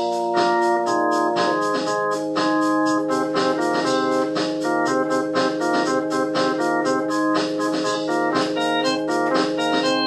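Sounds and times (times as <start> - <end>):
organ music with beat: 0.0 - 10.0.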